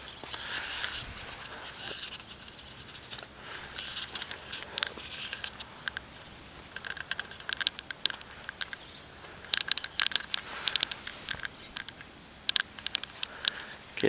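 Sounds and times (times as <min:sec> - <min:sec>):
dry corn leaves rustling: 0:00.0 - 0:14.0.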